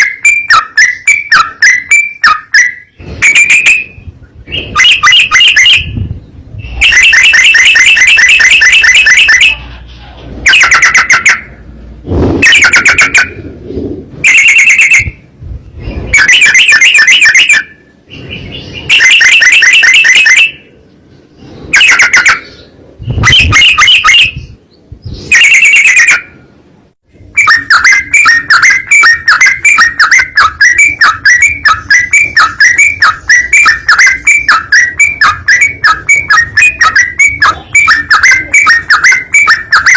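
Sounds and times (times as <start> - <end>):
bulbul song rapid chirping: 0.0 - 9.7, 10.5 - 26.2, 27.2 - 39.9.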